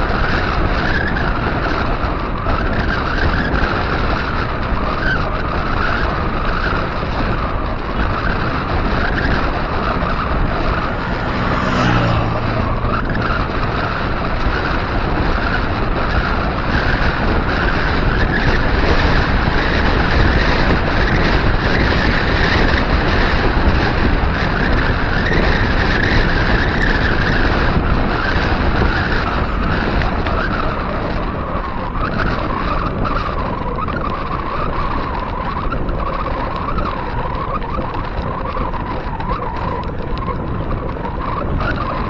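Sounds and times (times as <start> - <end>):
bicycle tyres rolling on concrete: 0.0 - 42.0
wind rushing over microphone: 0.0 - 42.0.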